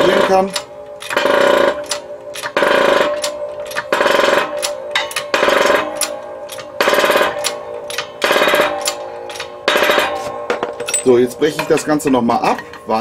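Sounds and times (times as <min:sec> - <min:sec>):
rattling hydraulic pump strokes: 0:00.0 - 0:13.0.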